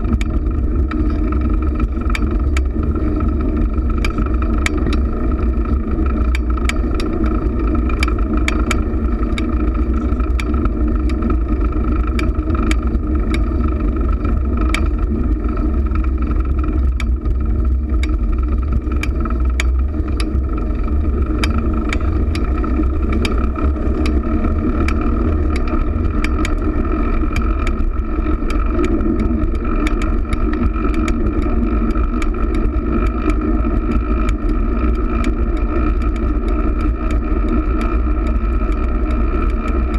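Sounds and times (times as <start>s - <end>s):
bicycle clicks and rattles: 0.0s - 39.9s
wind rumble: 0.0s - 39.9s.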